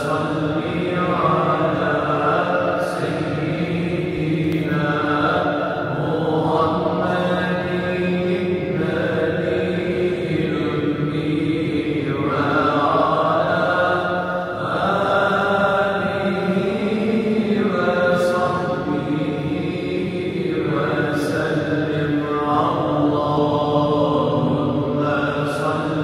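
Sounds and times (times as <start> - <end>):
men chanting melodically: 0.0 - 26.0.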